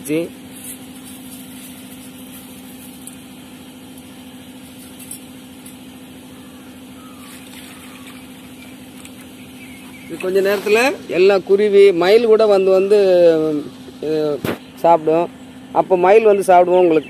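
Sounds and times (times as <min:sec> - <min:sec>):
motor humming at idle: 0:00.0 - 0:17.0.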